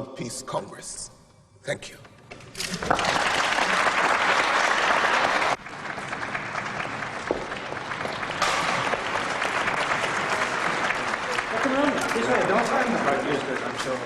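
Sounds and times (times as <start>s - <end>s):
audience applauding: 2.6s - 14.0s.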